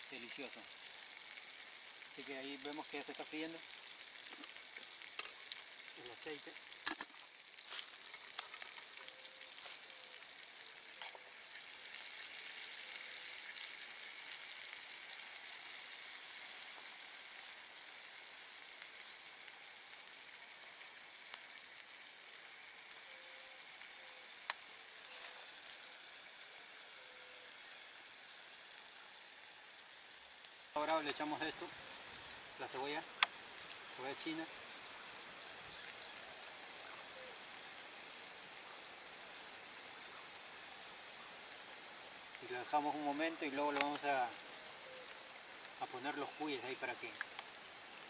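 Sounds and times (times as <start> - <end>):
peppers sizzling in oil: 0.0 - 48.0
small crackles: 0.0 - 48.0.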